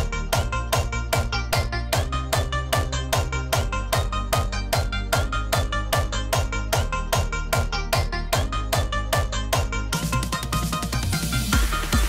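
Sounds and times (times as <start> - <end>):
kick drum: 0.0 - 12.0.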